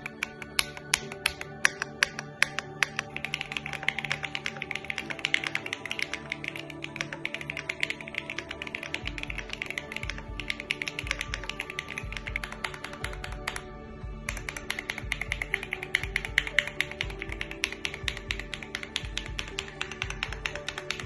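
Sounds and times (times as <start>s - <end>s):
mechanical keyboard typing: 0.0s - 13.6s, 14.3s - 21.0s
background music: 0.0s - 21.0s.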